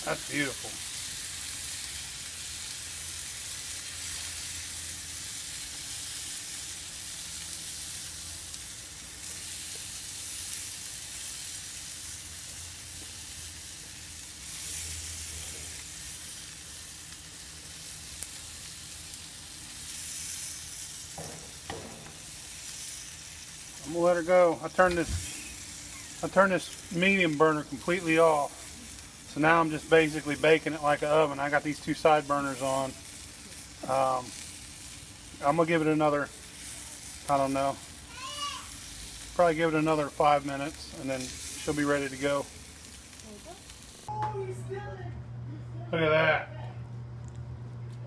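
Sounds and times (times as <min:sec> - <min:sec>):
chicken sizzling on grill: 0:00.0 - 0:45.0, 0:45.6 - 0:47.9.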